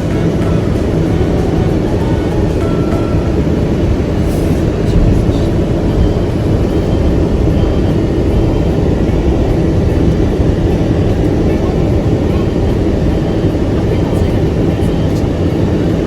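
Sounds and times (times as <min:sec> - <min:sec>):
loud low rumbling noise: 0:00.0 - 0:16.0.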